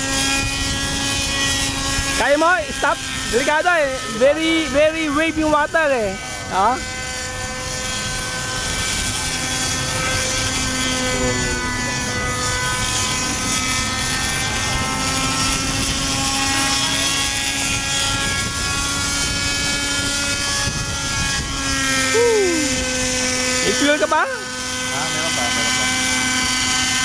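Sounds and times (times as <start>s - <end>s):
model helicopter engine whining: 0.0s - 27.0s.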